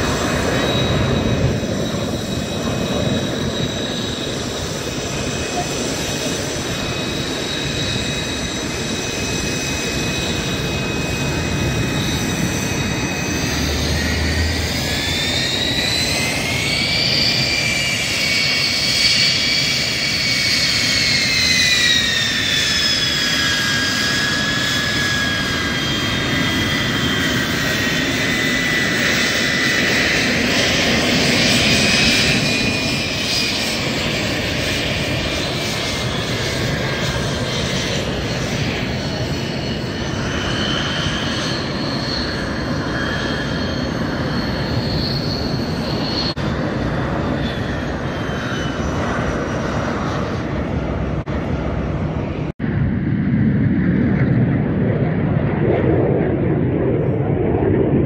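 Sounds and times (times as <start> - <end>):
jet engine rushing roar: 0.0 - 58.0
jet engine whine: 0.0 - 58.0.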